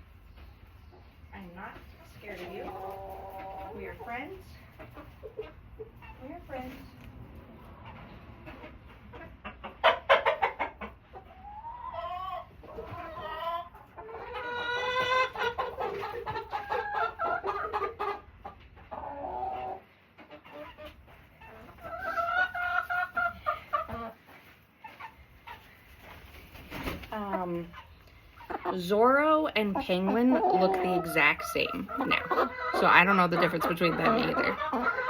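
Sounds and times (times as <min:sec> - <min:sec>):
chickens clucking and squawking: 0:00.0 - 0:35.0.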